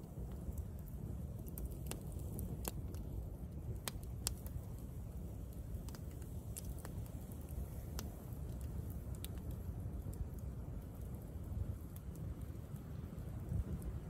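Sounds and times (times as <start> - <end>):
campfire crackling: 0.0 - 14.0
steady low rumble: 0.0 - 14.0.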